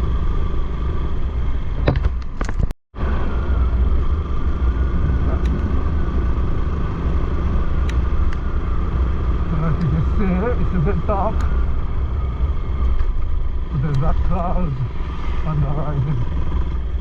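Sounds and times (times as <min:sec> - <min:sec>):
wind and road noise: 0:00.0 - 0:17.0
motorcycle engine running: 0:03.0 - 0:17.0.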